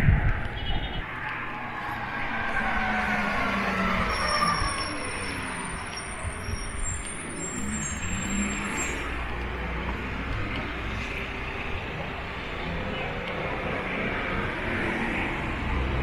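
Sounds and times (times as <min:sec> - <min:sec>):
engine rumble: 0:00.0 - 0:16.0
vehicle passing with whine: 0:01.0 - 0:16.0.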